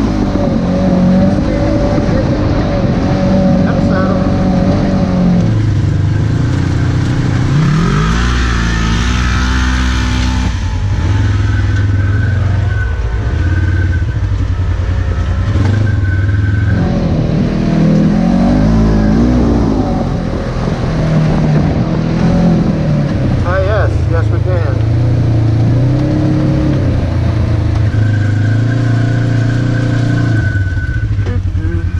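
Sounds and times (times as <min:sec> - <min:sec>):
vehicle engine revving: 0:00.0 - 0:31.9.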